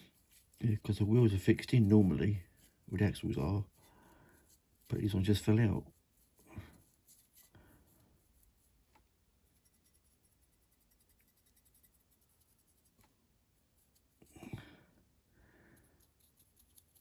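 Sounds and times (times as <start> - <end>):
faint scratching and clicks: 0.0 - 14.9, 15.7 - 17.0.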